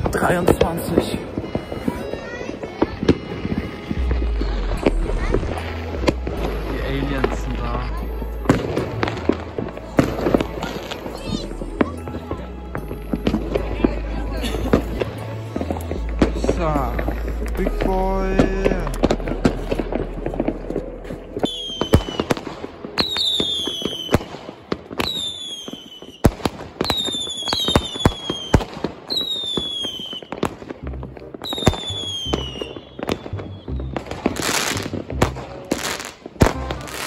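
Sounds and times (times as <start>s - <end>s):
firework bangs: 0.0s - 37.0s
hissing crackling bursts: 0.0s - 37.0s.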